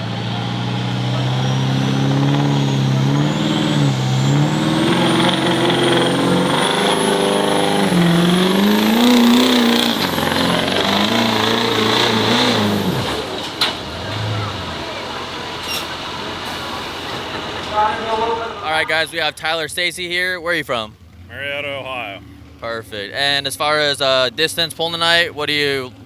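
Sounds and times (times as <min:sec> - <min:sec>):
diesel truck engine running: 0:00.0 - 0:26.0
turbocharger whistle: 0:00.0 - 0:26.0.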